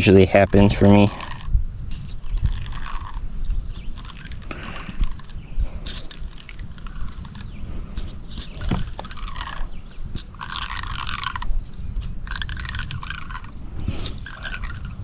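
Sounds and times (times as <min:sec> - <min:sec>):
fishing line scraping off reel: 0:00.0 - 0:15.0.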